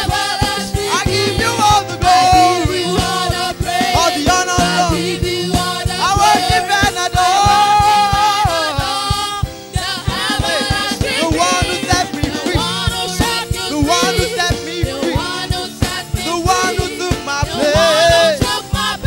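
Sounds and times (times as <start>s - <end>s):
gospel song with backing singers: 0.0s - 19.0s
instrumental accompaniment with beat: 0.0s - 19.0s.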